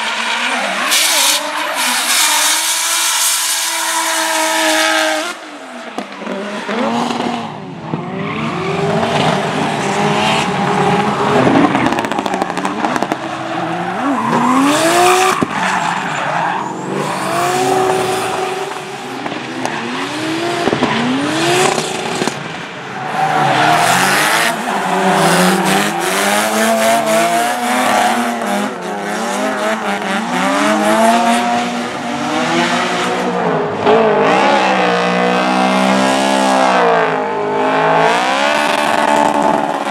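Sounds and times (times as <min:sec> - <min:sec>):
high-revving car engines: 0:00.0 - 0:39.9.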